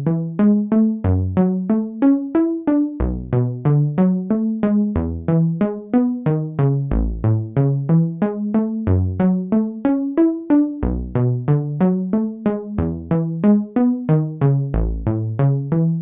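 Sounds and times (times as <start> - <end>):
synthesizer bass notes: 3.0 - 16.0.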